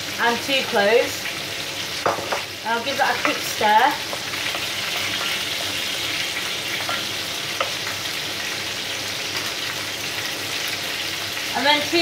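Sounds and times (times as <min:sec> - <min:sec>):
hot fat sizzling: 0:00.0 - 0:12.0.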